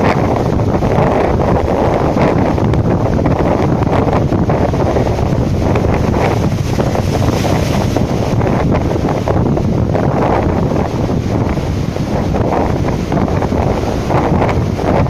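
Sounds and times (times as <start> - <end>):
storm surf breaking on boulders: 0.0 - 15.0
strong wind buffeting microphone: 0.0 - 15.0.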